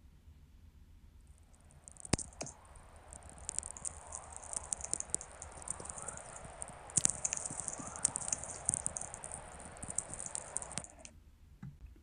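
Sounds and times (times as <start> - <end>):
dense crackle of sharp clicks: 1.2 - 11.2
faint rising chirps: 1.3 - 11.1.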